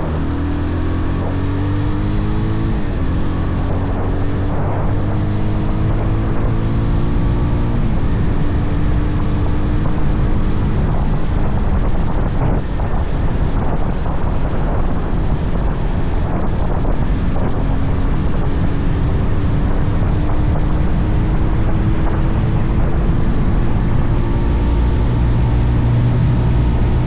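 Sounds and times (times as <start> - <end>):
motorcycle engine running: 0.0 - 27.0
wind noise on microphone: 0.0 - 27.0.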